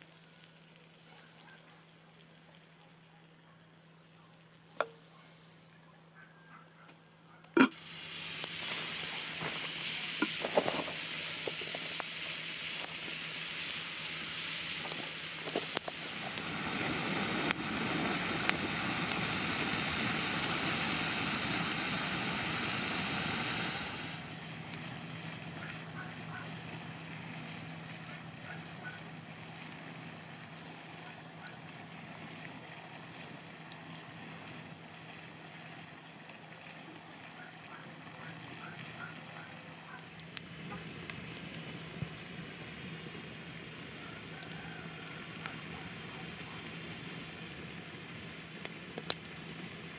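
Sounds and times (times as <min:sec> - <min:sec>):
burning wood crackling: 0:00.0 - 0:05.8, 0:06.9 - 0:49.9
broth boiling and bubbling: 0:00.0 - 0:06.3, 0:07.0 - 0:49.9.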